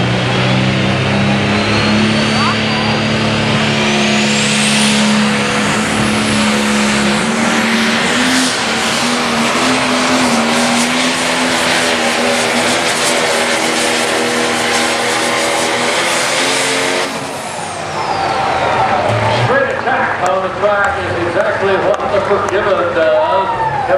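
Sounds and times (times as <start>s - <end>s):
turbo whine: 0.0s - 19.3s
diesel engine running loud: 0.0s - 23.9s.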